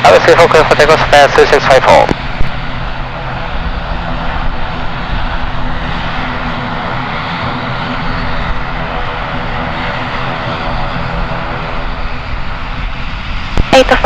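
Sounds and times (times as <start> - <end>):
airliner engines running: 0.0 - 14.0.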